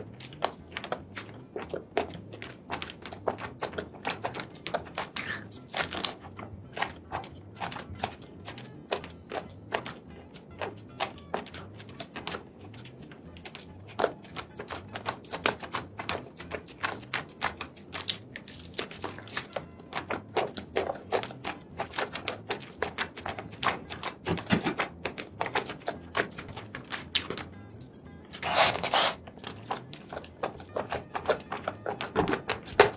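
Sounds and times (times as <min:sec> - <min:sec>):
person chewing wetly: 0:00.0 - 0:32.9.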